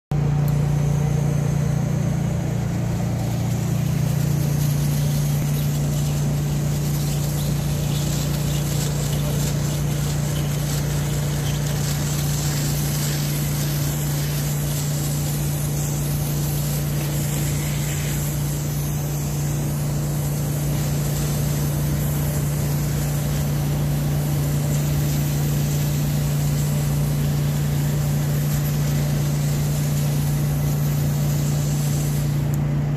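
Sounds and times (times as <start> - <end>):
steam cleaner machine humming: 0.1 - 32.9
steam hissing from wand: 2.2 - 32.6.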